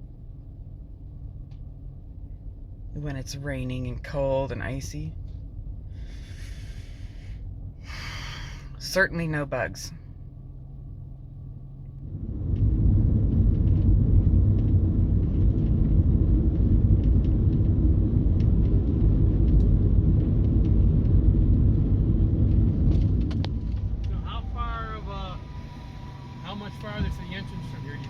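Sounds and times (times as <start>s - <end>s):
road and wind noise in car: 0.0s - 28.0s.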